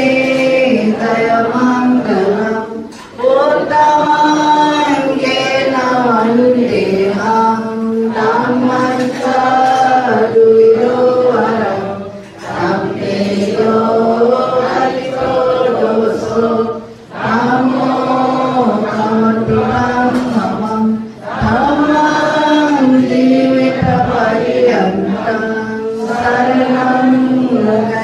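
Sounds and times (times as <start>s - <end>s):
group chanting in unison: 0.0s - 28.0s.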